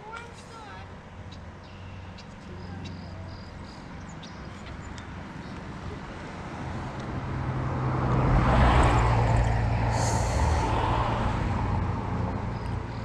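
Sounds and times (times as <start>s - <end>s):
road vehicle driving past: 0.8s - 13.0s.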